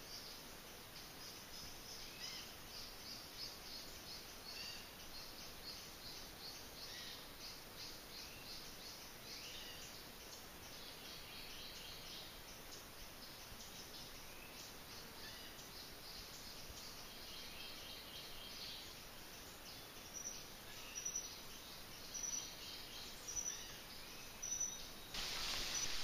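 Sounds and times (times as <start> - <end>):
background hiss: 0.0 - 26.0.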